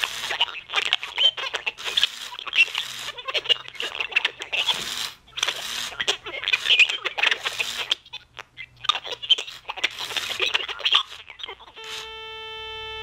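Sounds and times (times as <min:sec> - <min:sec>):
garbled voice-like sound from speaker: 0:00.0 - 0:12.0.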